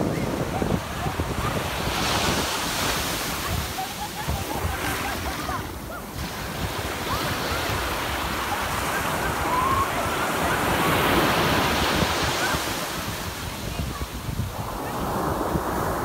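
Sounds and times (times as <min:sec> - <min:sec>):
ocean waves washing over sand: 0:00.0 - 0:16.0
wind buffeting microphone: 0:00.0 - 0:16.0.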